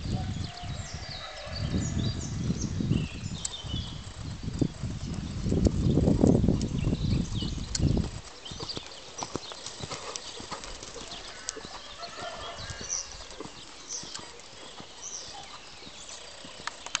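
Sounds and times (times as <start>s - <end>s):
horse hoofbeats on dirt: 0.0s - 17.0s.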